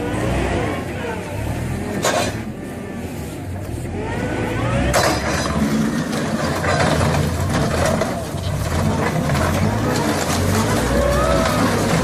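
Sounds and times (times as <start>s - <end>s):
construction machine engine running: 0.0s - 12.0s.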